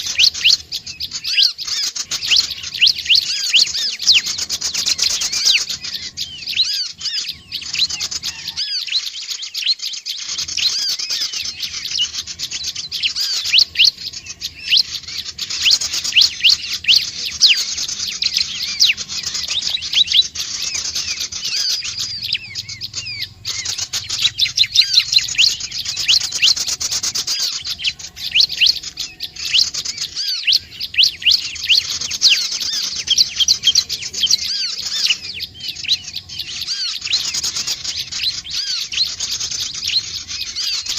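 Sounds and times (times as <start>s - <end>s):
rapid high bird chirps: 0.0s - 40.9s.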